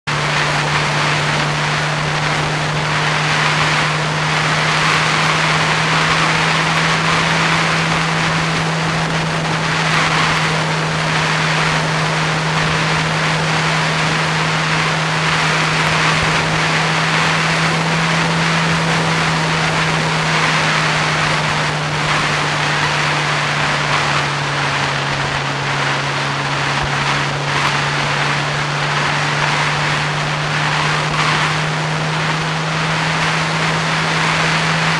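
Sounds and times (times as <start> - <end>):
vehicle engine droning: 0.0 - 34.9
wind and road noise: 0.0 - 34.9.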